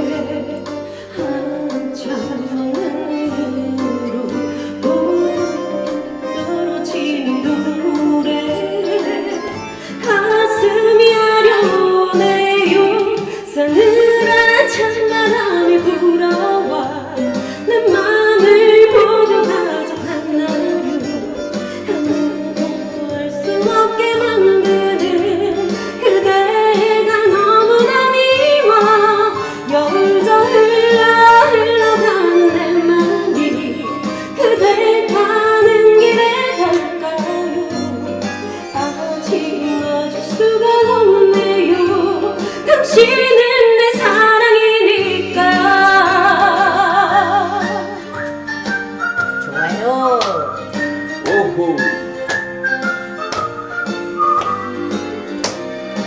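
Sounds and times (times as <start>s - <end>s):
woman singing: 0.0s - 50.1s
instrumental accompaniment: 0.0s - 56.0s.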